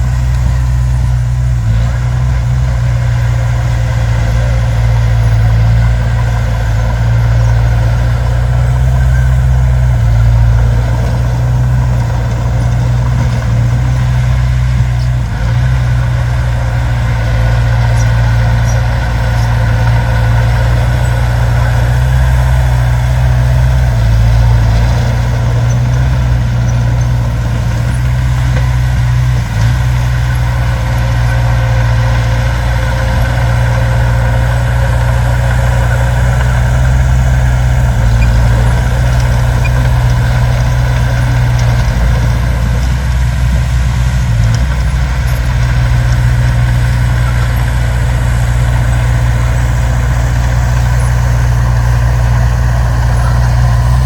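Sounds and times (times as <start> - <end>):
heavy machine engine rumbling: 0.0 - 54.0.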